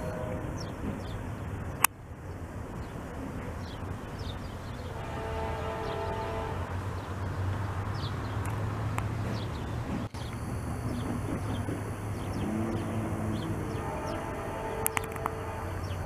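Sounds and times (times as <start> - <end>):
birds chirping: 0.0 - 16.0
distant freight train rumble: 0.0 - 16.0.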